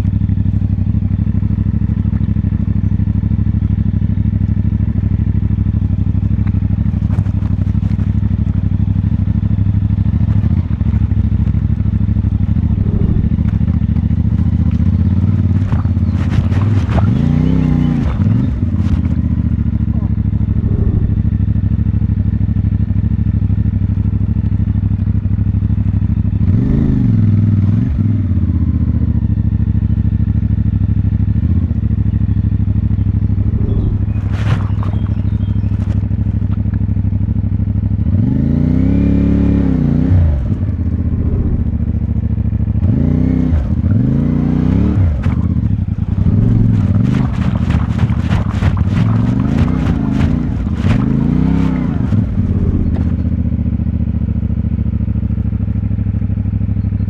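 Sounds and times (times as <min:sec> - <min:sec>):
motorcycle engine running and revving: 0:00.0 - 0:57.0.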